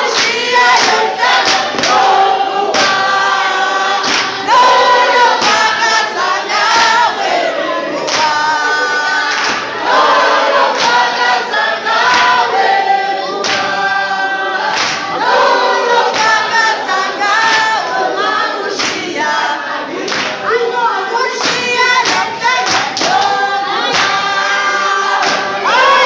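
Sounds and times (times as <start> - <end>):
hand-clapping: 0.0 - 7.3, 7.9 - 12.6, 13.3 - 14.0, 14.7 - 18.0, 18.7 - 19.4, 20.0 - 20.6, 21.3 - 26.0
group singing: 0.0 - 26.0.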